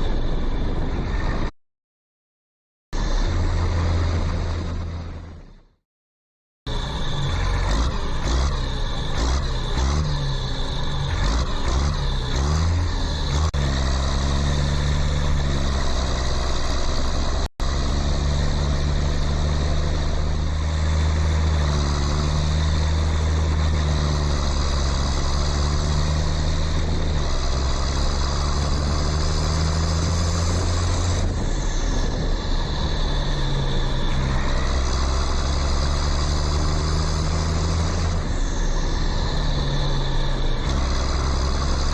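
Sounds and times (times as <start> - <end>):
low engine-like drone: 0.0 - 1.5, 6.7 - 41.9.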